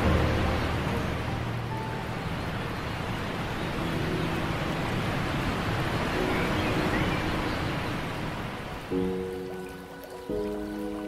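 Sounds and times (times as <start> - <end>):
faint held music notes: 0.0 - 11.0
waterfall rushing: 0.0 - 11.0.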